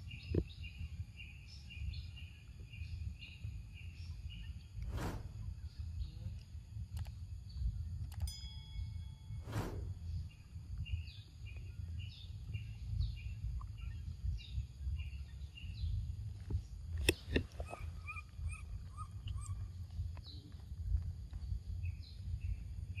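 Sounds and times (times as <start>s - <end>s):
birds chirping: 0.0s - 23.0s
steady low rumble: 0.0s - 23.0s.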